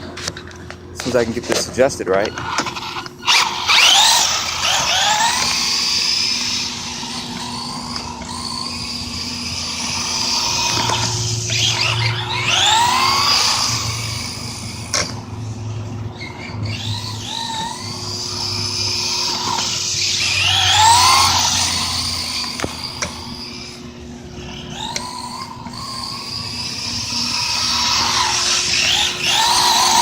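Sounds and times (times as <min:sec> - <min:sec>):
electric motor whining: 0:01.0 - 0:30.0.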